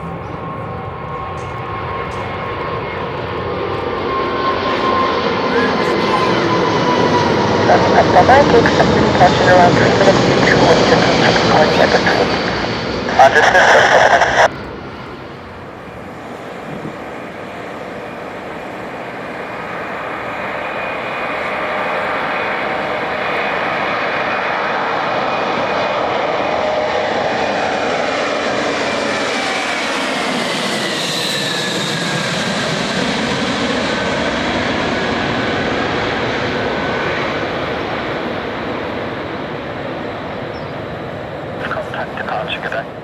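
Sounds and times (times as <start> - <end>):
jet aircraft climbing: 0.0 - 43.0.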